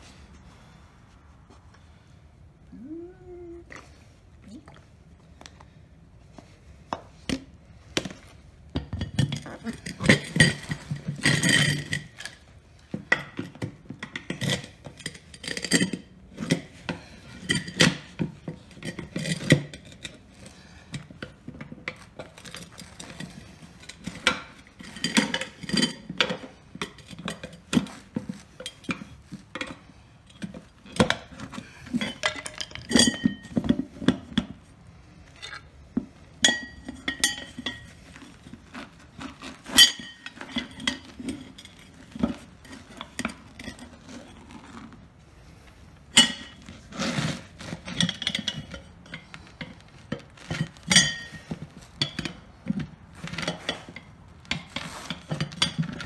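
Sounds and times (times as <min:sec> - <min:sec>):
tire irons clinking on wheel rim: 0:08.3 - 0:45.0, 0:46.0 - 0:56.0.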